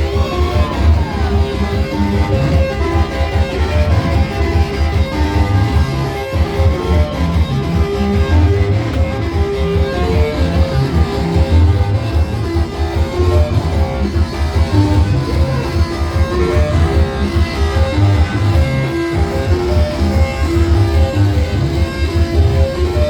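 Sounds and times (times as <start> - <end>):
guitar-led instrumental music: 0.0 - 23.0
pulsing bass: 0.0 - 23.0.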